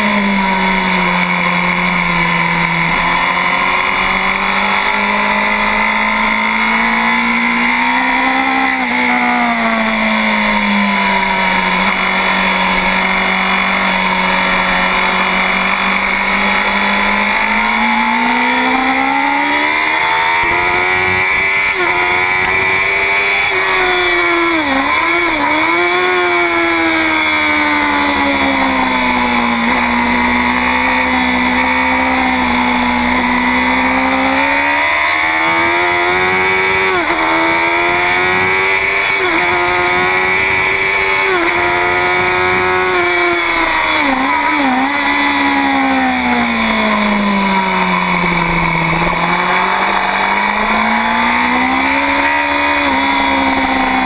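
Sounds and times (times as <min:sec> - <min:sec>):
motorcycle engine at racing speed: 0:00.0 - 0:54.0.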